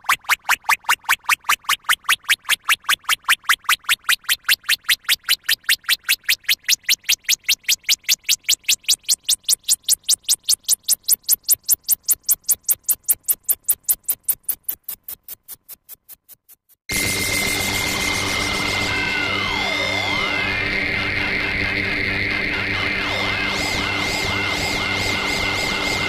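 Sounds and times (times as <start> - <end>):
sharp electronic ticks: 0.0 - 17.6, 21.4 - 26.0.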